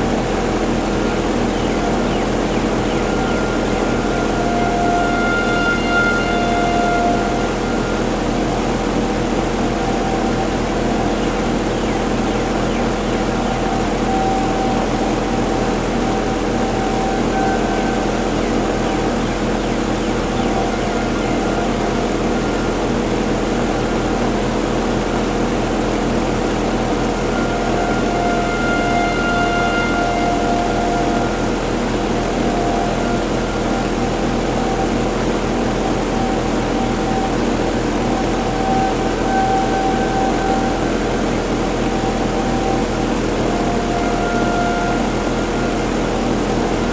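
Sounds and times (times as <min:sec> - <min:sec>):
distant warning sirens: 0:00.0 - 0:46.9
loud steady rushing noise: 0:00.0 - 0:46.9.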